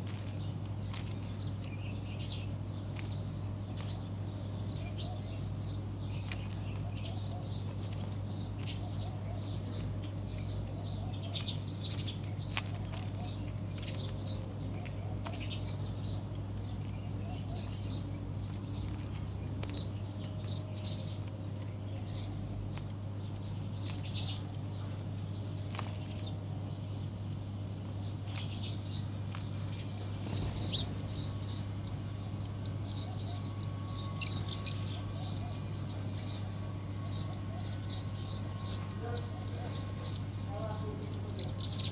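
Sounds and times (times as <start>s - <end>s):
small birds chirping: 0.0s - 41.9s
steady low hum: 0.0s - 41.9s.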